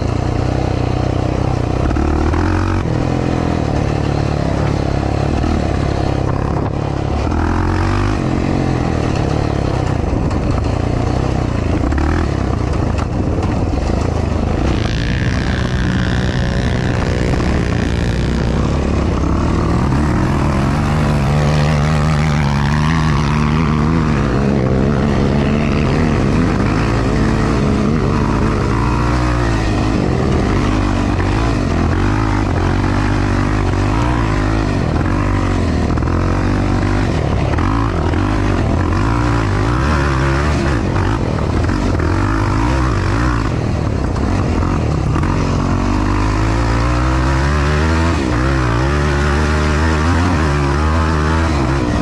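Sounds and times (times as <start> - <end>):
atv engine revving: 0.0 - 52.0.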